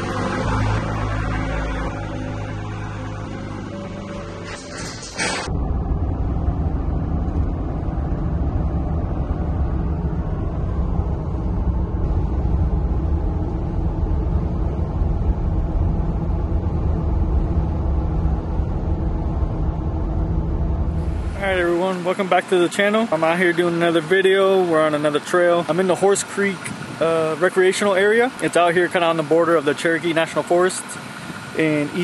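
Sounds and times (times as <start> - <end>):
road noise: 0.0 - 32.0
vehicle engine rumble: 0.0 - 32.0.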